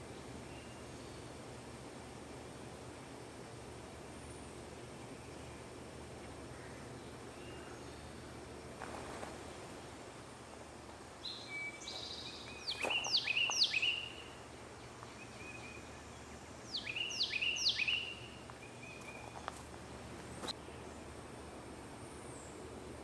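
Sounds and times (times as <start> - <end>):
songbird singing: 0.0 - 2.8, 3.9 - 23.0
low background hiss: 0.0 - 23.0.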